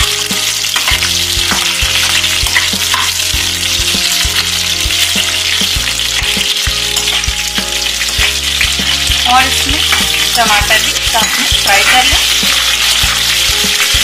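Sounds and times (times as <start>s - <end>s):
vegetables sizzling in hot oil: 0.0s - 14.0s
ladle scraping a pan: 0.5s - 14.0s.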